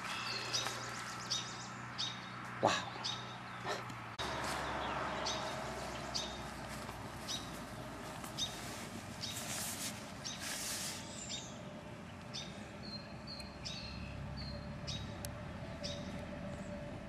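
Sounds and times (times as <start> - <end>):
bird chirping: 0.0 - 16.8.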